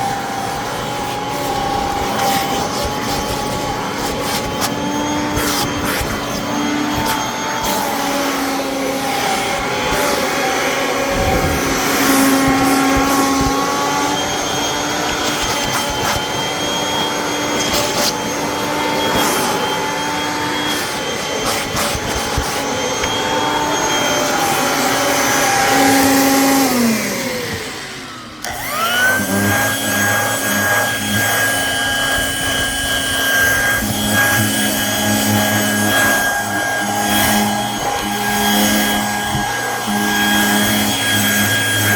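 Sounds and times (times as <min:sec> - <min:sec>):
vacuum cleaner motor running: 0:00.0 - 0:41.9.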